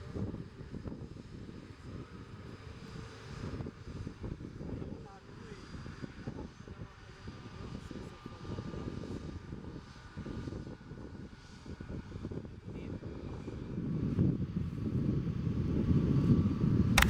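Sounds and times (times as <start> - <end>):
faint steady engine whine: 0.0 - 17.0.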